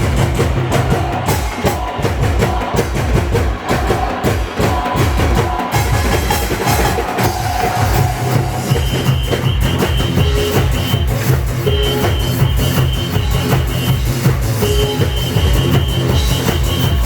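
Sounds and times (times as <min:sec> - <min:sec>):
loud music with drum beat: 0:00.0 - 0:17.0.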